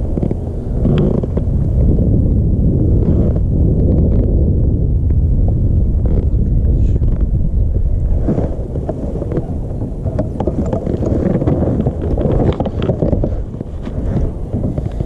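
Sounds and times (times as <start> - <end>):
loud low rumble: 0.0 - 15.0
wind buffeting microphone: 0.0 - 15.0.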